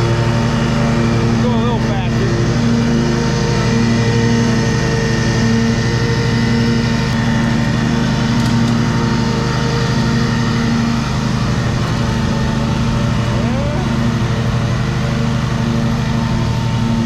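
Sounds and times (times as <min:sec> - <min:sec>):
riding lawn mower engine: 0:00.0 - 0:17.0.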